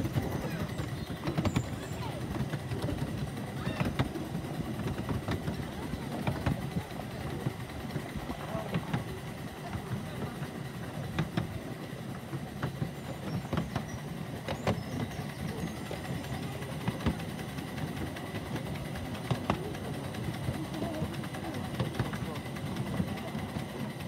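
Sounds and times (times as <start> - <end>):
miniature train rumbling: 0.0 - 24.0
sharp clicks of train: 0.0 - 24.0.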